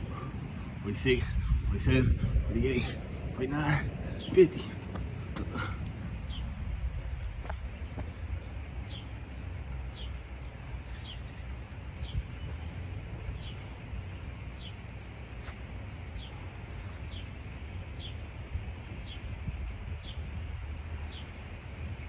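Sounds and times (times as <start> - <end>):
steady low rumble: 0.0 - 22.0
bird chirping: 3.9 - 22.0.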